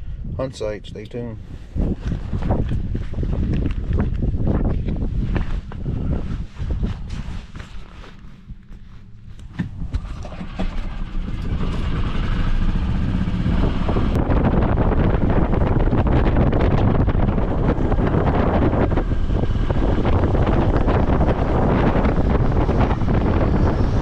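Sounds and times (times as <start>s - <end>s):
wind noise on microphone: 0.0s - 24.0s
vehicle driving: 1.4s - 24.0s.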